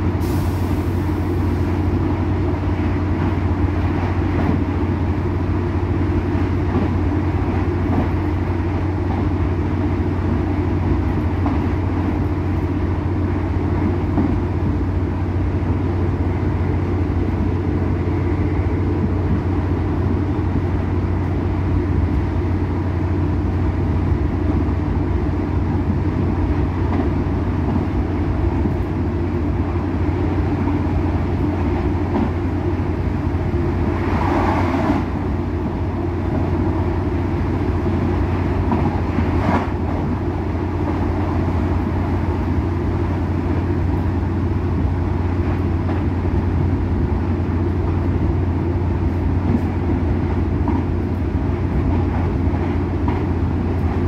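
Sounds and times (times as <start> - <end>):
railcar engine drone: 0.0 - 54.0.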